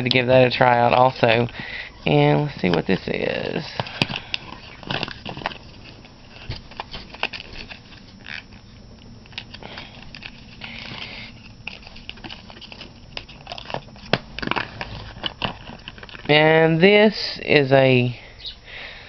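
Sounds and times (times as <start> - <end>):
crinkling rustle: 0.0 - 16.5.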